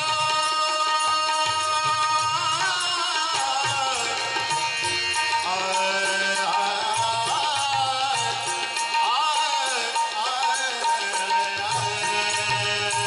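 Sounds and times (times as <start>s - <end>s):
person singing devotional song: 0.0s - 13.0s
tabla drumming: 0.0s - 13.0s.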